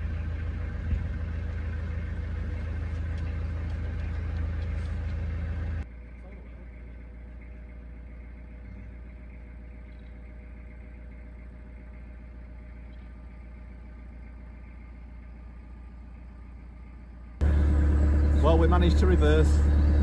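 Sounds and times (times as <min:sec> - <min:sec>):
diesel engine running low: 0:00.0 - 0:20.0.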